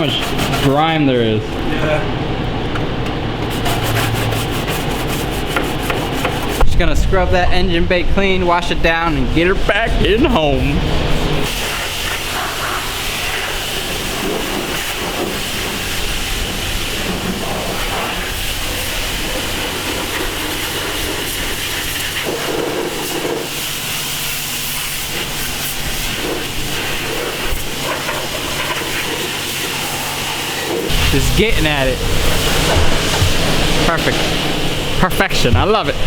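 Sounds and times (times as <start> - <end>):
pressure wand spraying water: 3.4 - 6.6, 9.6 - 36.0.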